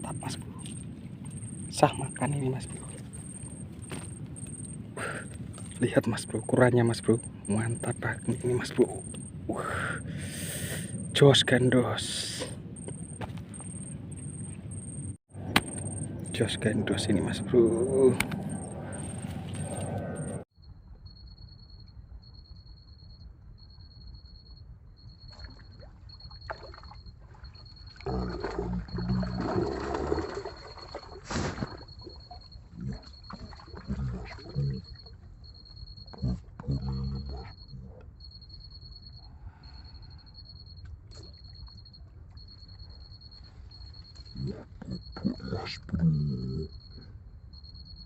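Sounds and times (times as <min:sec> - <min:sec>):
insect trilling: 0:00.0 - 0:20.4, 0:25.0 - 0:48.0.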